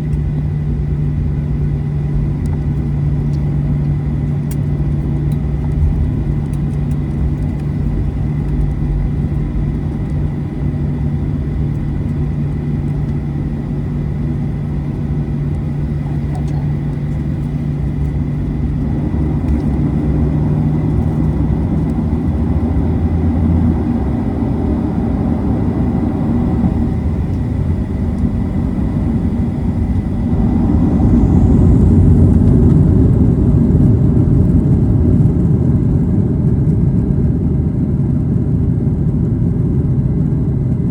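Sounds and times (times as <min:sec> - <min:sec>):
airplane cabin rumble: 0:00.0 - 0:40.9
low hum: 0:00.0 - 0:40.9.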